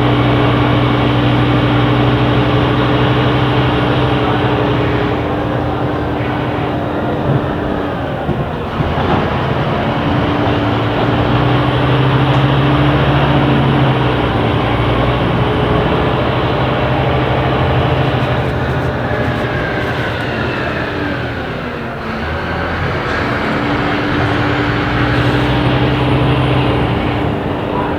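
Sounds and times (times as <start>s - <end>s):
bus diesel engine under load: 0.0s - 27.9s.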